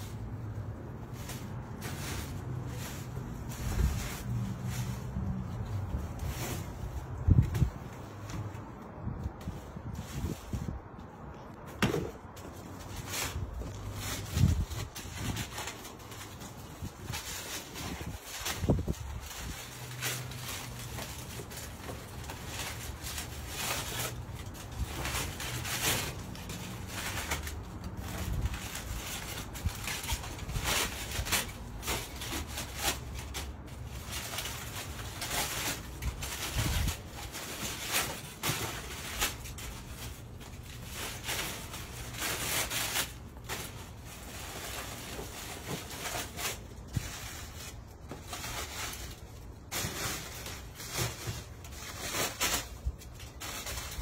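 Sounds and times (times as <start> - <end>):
aluminium foil crinkling: 0.0 - 54.0.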